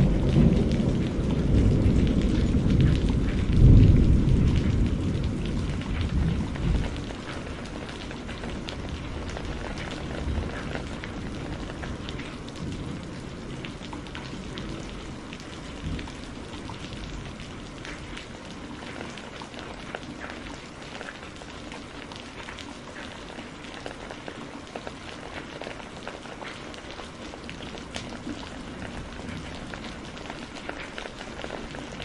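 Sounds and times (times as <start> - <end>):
fireplace crackling and popping: 0.0 - 32.0
steady rain: 0.0 - 32.0.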